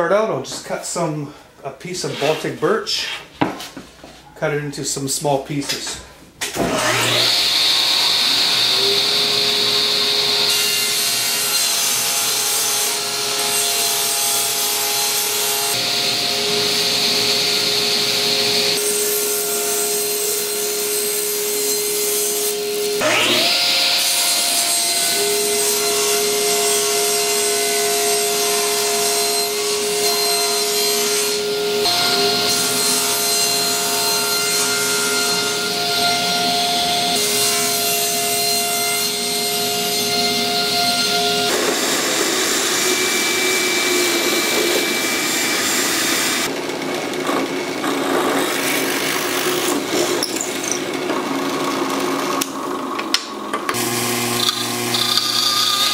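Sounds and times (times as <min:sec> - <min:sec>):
power saw cutting plywood: 0:06.5 - 0:52.6, 0:53.7 - 0:55.9.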